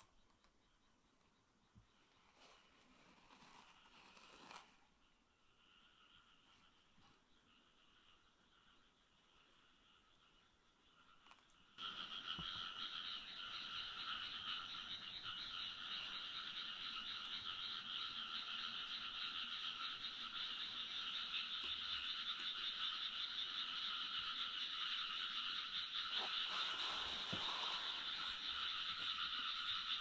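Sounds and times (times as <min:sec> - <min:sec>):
chorus of frogs croaking: 0:05.1 - 0:30.0.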